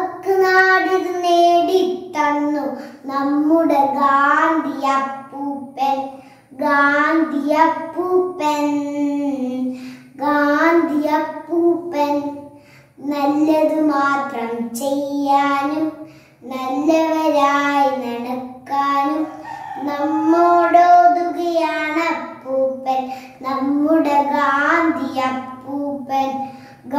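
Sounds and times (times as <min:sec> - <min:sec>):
girl singing unaccompanied: 0:00.0 - 0:26.9.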